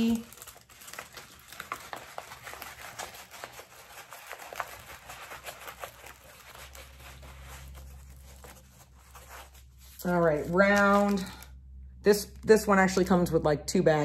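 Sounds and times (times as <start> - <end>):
canvas crinkling: 0.0 - 11.4.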